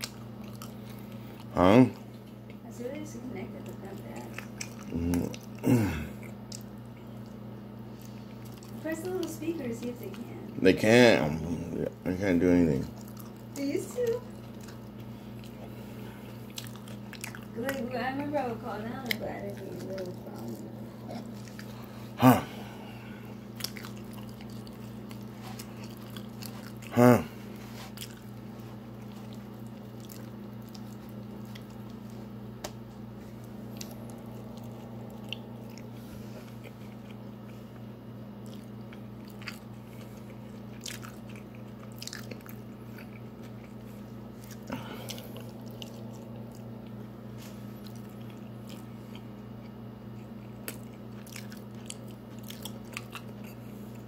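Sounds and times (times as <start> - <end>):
chewing and crunching food: 0.0 - 54.0
steady low hum: 0.0 - 54.0.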